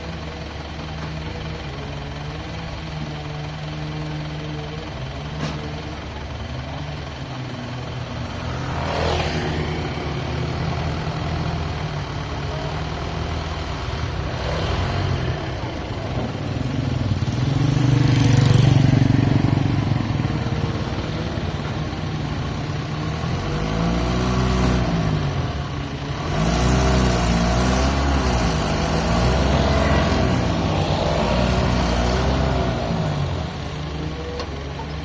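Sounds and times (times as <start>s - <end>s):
engine running under changing load: 0.0s - 35.0s.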